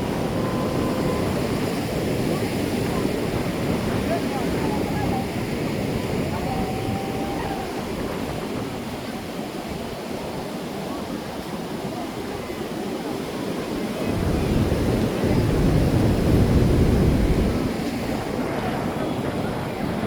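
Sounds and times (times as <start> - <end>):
ocean surf washing onto beach: 0.0 - 20.0
wind rumbling on microphone: 0.0 - 20.0.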